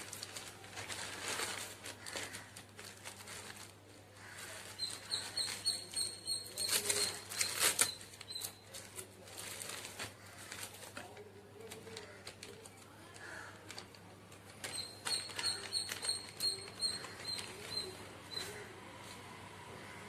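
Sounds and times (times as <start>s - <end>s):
plastic packaging crinkling: 0.0s - 18.6s.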